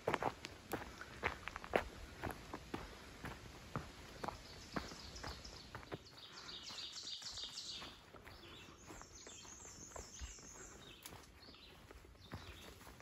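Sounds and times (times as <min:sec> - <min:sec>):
footsteps on dirt trail: 0:00.0 - 0:13.0.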